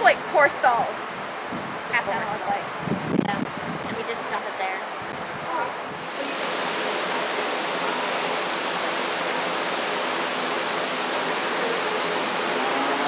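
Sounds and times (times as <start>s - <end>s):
large electric fans rushing: 0.0s - 13.0s.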